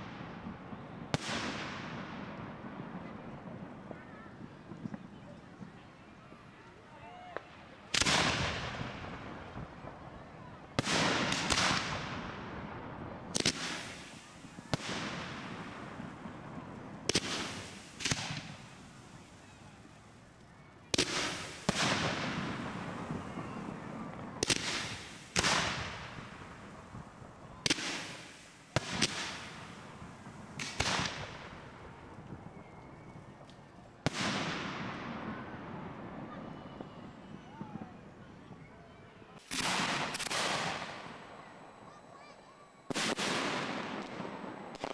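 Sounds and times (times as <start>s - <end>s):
fireworks bangs with echoing rumble: 0.0s - 44.9s.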